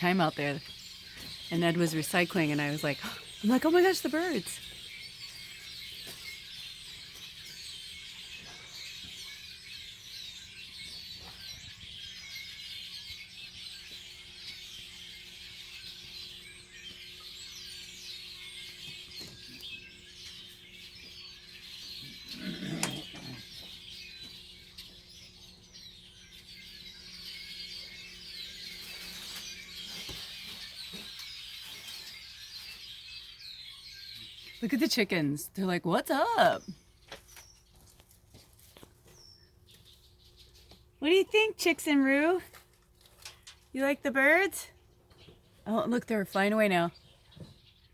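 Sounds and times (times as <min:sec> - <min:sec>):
flock of birds chirping: 0:00.0 - 0:47.9.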